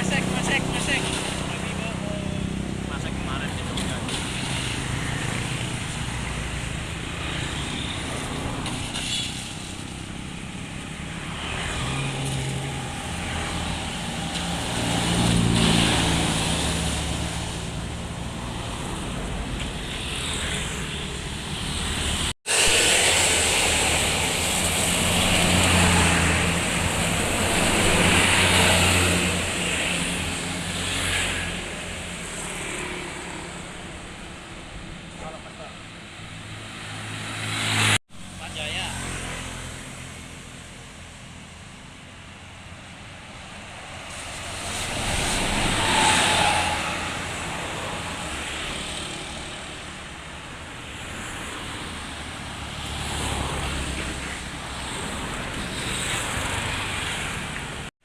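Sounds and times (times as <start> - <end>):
buses passing on a road: 0.0 - 57.9.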